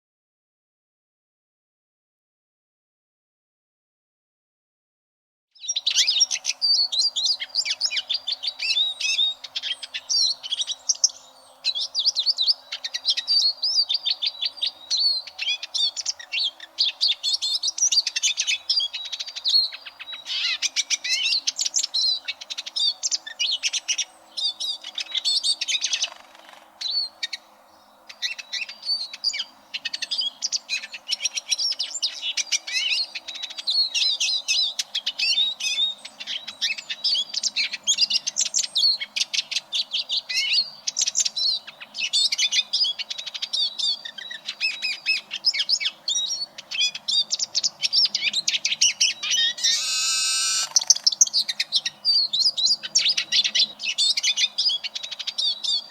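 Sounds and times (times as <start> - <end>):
bird twittering song: 5.6 - 55.9.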